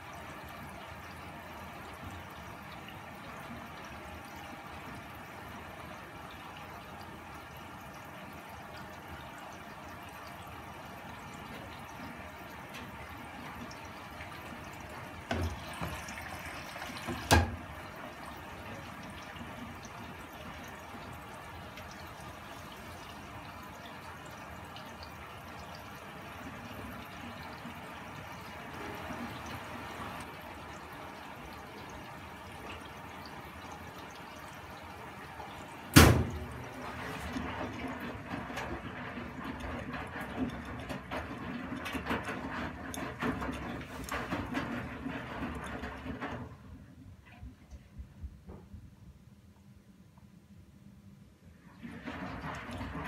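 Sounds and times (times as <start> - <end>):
water splashing in drum: 0.0 - 46.7, 51.8 - 53.0
washing machine tumbling: 0.0 - 49.3, 51.4 - 53.0.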